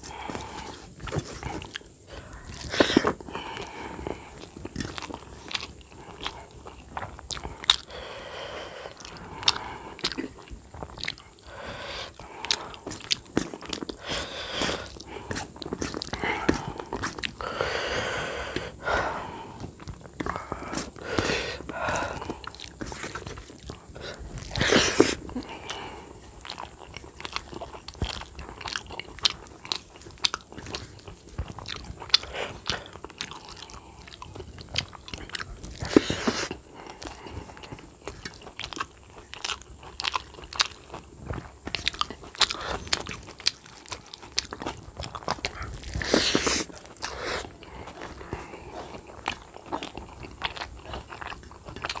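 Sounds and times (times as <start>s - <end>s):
wet chewing and lip-smacking: 0.0s - 8.0s, 8.8s - 52.0s.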